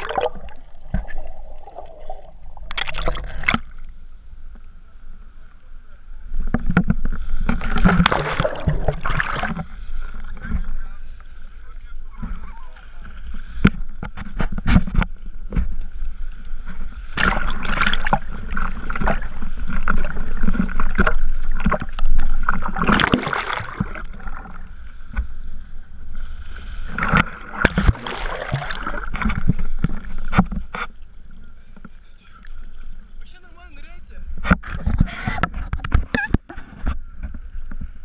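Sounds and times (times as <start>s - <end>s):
water splashing and sloshing: 0.0s - 4.8s, 6.2s - 38.0s.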